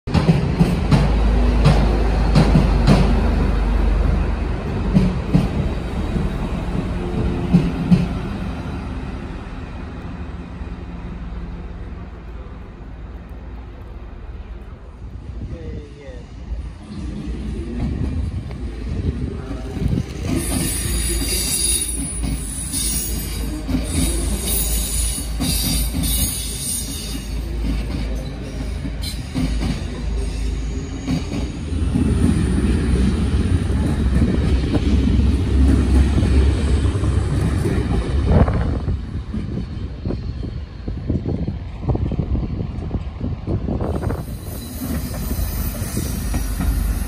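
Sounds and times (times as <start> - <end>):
train low hum: 0.0 - 47.0
wheels rumbling on rail: 0.1 - 47.0.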